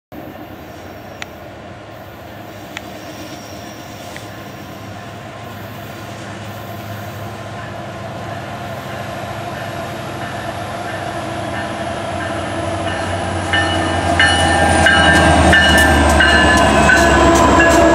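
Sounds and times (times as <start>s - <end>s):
diesel locomotive engines: 0.1s - 17.9s.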